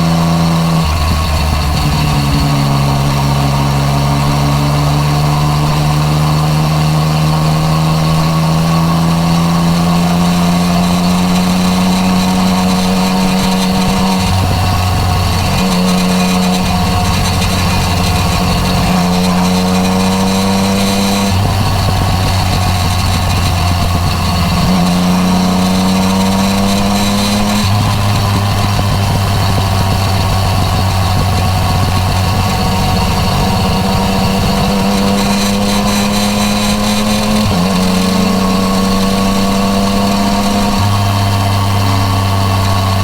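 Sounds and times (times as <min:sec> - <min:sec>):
motorcycle engine under throttle: 0:00.0 - 0:43.0.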